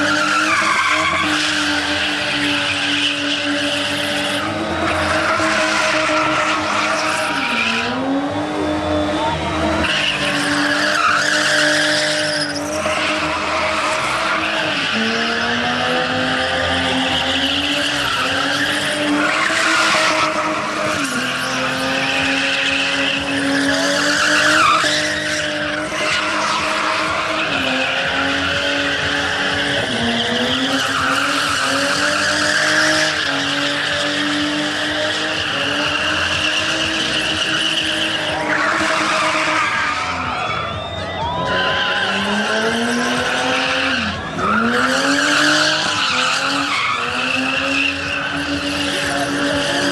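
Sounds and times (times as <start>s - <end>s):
tyres squealing: 0.0s - 8.2s, 8.8s - 49.9s
car engine revving high: 0.0s - 49.9s.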